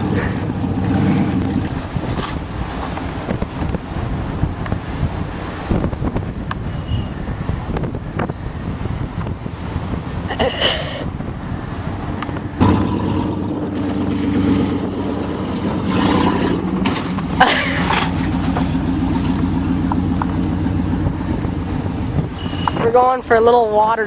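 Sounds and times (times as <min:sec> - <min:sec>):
pickup truck engine running: 0:00.0 - 0:10.5, 0:11.1 - 0:24.0.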